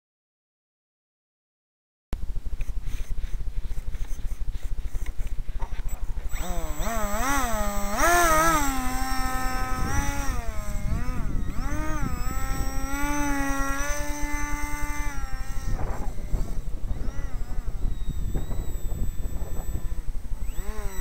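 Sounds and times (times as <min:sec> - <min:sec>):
model plane motor whining: 0:02.4 - 0:21.0.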